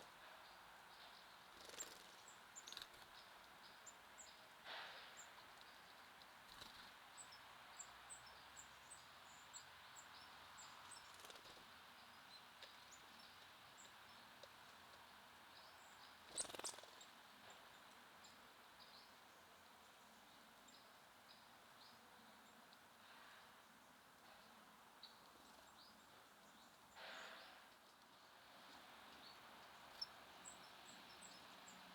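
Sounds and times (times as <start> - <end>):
rustle: 0.0 - 31.9
soft outdoor hiss: 0.0 - 31.9
songbirds chirping: 0.0 - 31.9.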